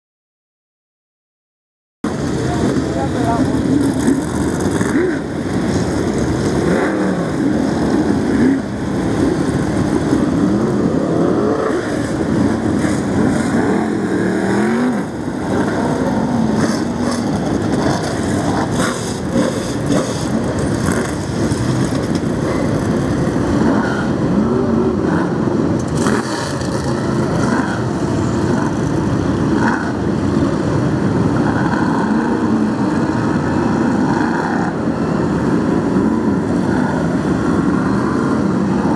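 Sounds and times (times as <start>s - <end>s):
stock car engines racing: 2.1s - 38.9s.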